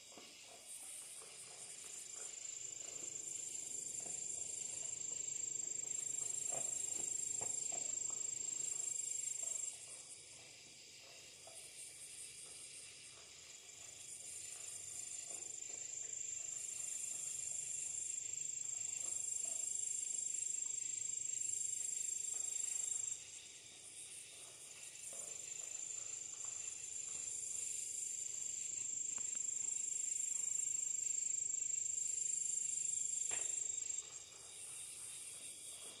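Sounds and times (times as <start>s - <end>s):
insect chorus: 0.0s - 36.0s
insect high-pitched trill: 0.0s - 36.0s.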